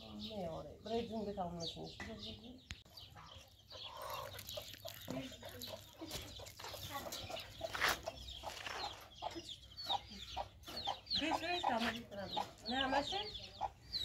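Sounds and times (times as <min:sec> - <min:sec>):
hens clucking: 0:02.1 - 0:14.0.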